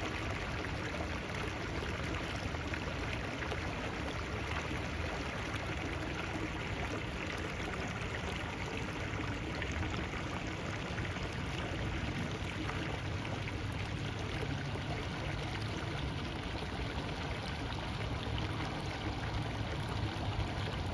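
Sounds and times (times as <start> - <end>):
water rushing along gutter: 0.0 - 20.9.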